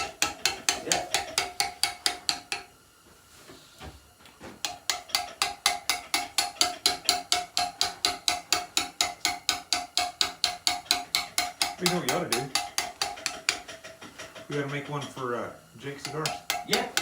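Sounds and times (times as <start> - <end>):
hammer striking chisel on stone: 0.0 - 2.7, 4.6 - 15.2, 16.0 - 17.0.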